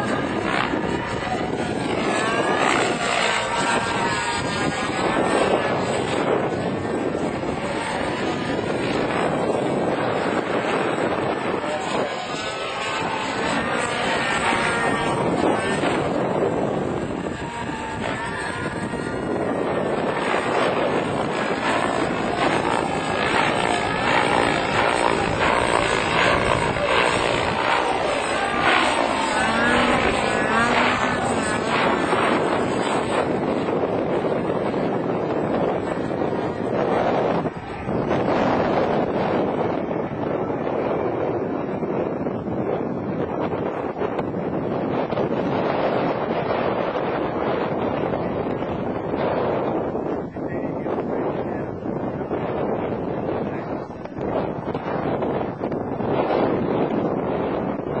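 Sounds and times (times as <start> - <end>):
model helicopter engine whining: 0.0 - 58.0.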